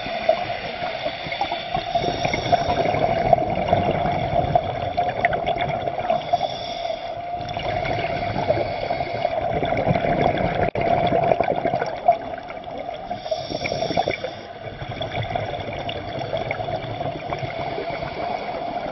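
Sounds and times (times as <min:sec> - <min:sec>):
water gurgling and trickling: 0:00.0 - 0:18.9.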